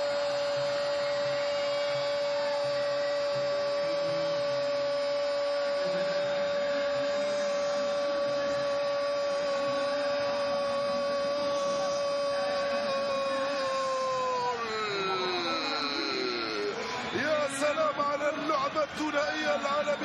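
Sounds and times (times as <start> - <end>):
high droning tone: 0.0 - 20.0
stadium crowd noise: 0.0 - 20.0.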